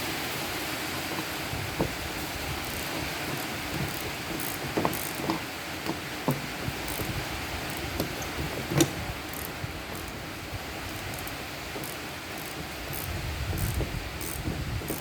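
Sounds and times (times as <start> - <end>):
metallic clicks and knocks: 0.9 - 15.0.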